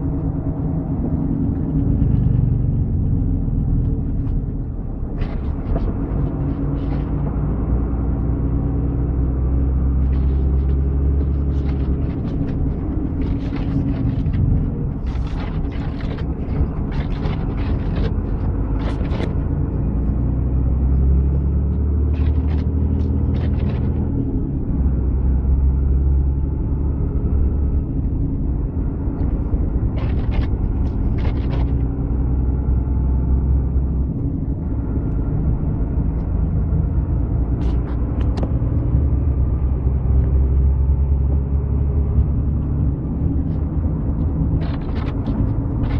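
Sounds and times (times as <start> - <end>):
road noise: 0.0 - 45.9
vehicle engine rumble: 0.0 - 45.9.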